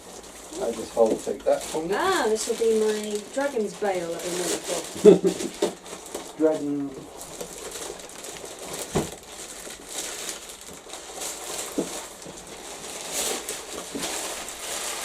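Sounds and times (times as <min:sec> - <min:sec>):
packaging rustling: 0:00.0 - 0:15.0.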